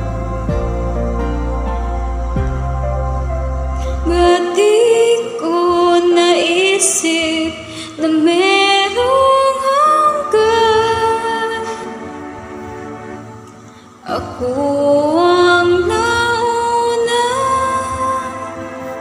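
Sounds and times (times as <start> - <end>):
karaoke backing track: 0.0 - 19.0.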